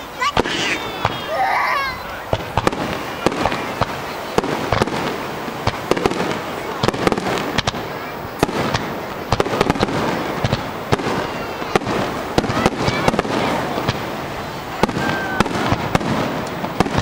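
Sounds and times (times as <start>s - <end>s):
firework shells bursting: 0.3s - 17.0s.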